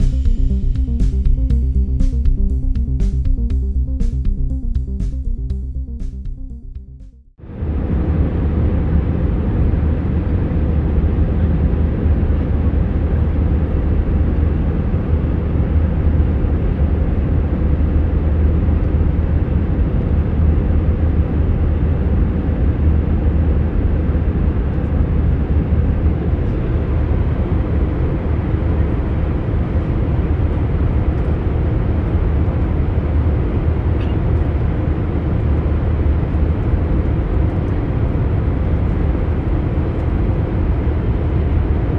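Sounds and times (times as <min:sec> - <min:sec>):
jet engine and airflow rumble: 0:00.0 - 0:06.6, 0:07.4 - 0:41.9
constant low hum: 0:00.0 - 0:41.9.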